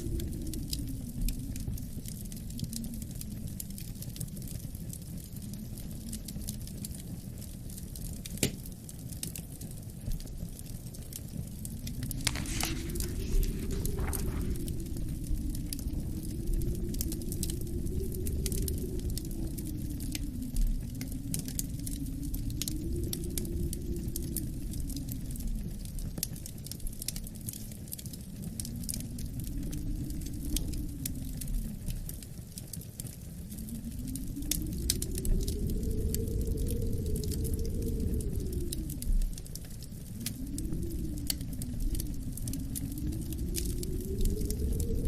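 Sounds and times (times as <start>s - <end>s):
low wind rumble: 0.0s - 45.0s
wood fire crackling: 0.0s - 45.0s.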